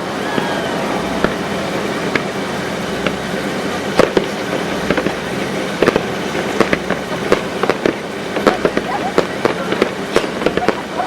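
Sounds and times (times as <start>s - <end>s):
background rumble and hiss: 0.0s - 11.0s
fireworks bangs: 0.0s - 11.0s.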